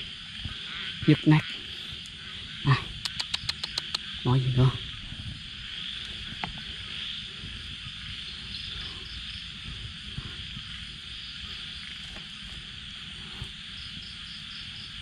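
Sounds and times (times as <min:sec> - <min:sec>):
crickets and night insects: 0:00.0 - 0:15.0.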